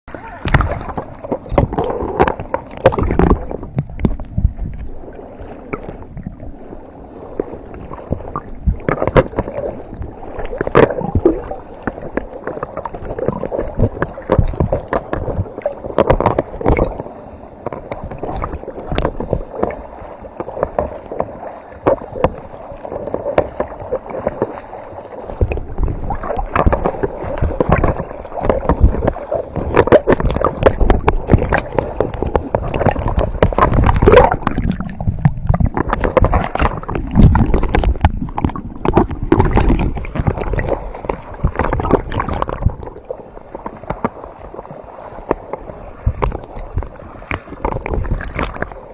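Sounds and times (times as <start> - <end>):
water sloshing and splashing: 0.1 - 48.9.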